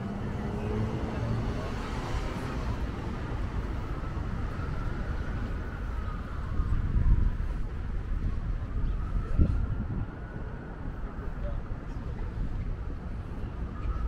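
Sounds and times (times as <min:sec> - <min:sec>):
faint vehicle whine: 0:00.0 - 0:14.0
road traffic rumbling: 0:00.0 - 0:14.0.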